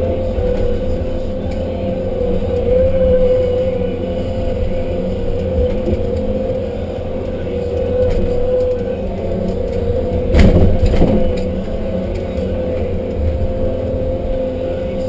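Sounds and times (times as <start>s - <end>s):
heavy machine engine drone: 0.0s - 15.0s.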